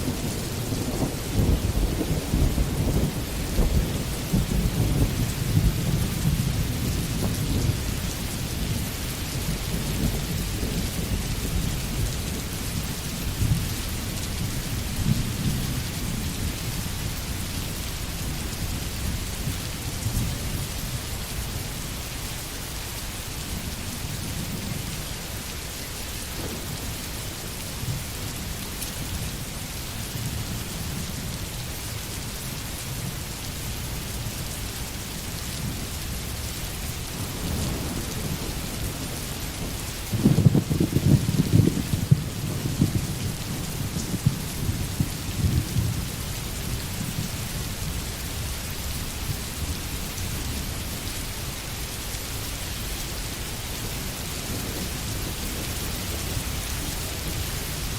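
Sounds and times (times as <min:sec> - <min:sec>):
rain falling on foliage: 0:00.0 - 0:57.9.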